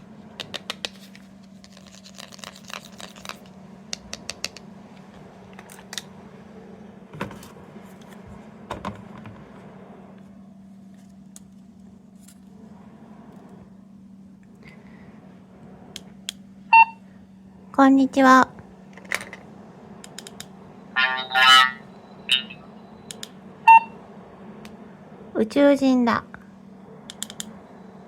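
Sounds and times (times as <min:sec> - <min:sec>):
steady low hum: 0:03.3 - 0:28.0.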